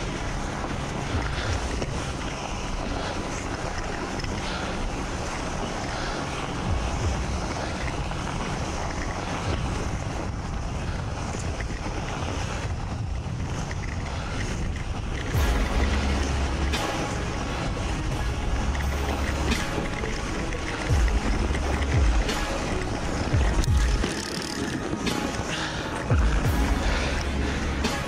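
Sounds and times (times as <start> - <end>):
tyres rolling through snow: 0.0 - 28.0
wind buffeting microphone: 0.0 - 28.0.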